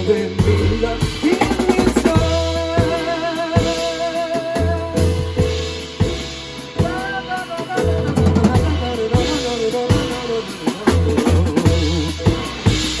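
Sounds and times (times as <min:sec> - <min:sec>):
drum kit beat: 0:00.0 - 0:13.0
held bass line: 0:00.0 - 0:13.0
instrumental band music: 0:00.0 - 0:13.0.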